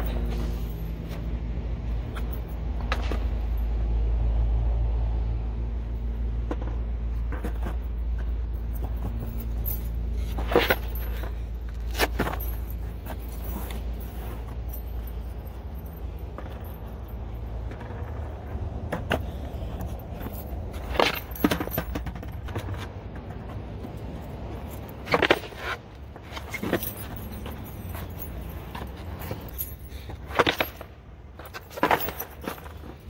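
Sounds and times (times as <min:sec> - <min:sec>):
skateboard wheels rolling on concrete: 0:00.0 - 0:33.0.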